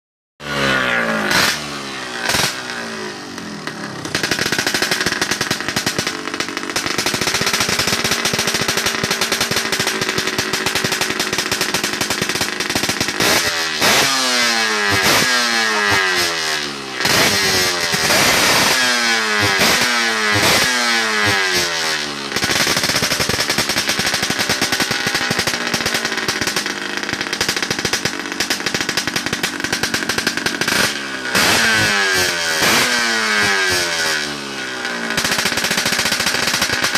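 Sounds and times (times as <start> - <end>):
two-stroke motorcycle engine idling: 0.4 - 36.9
sharp throttle blips: 0.5 - 36.9.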